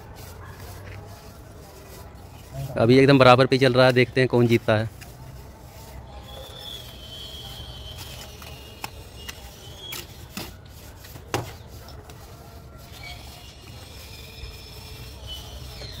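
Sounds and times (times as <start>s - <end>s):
trowels scraping mortar on brick: 0.0s - 16.0s.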